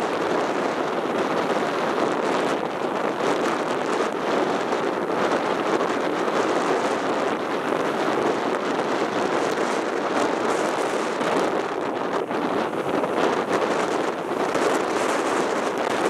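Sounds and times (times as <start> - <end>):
sea surf breaking over rocks: 0.0 - 16.0.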